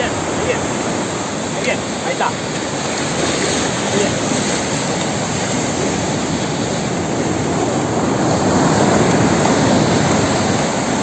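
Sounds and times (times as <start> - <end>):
surf breaking on shore: 0.0 - 11.0.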